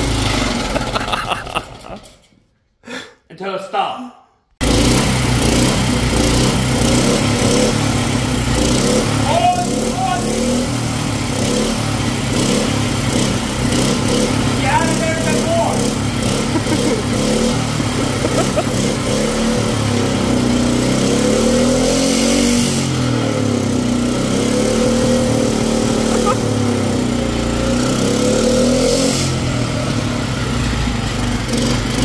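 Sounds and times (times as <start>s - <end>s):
generator engine revving: 0.0s - 2.2s, 4.6s - 32.0s.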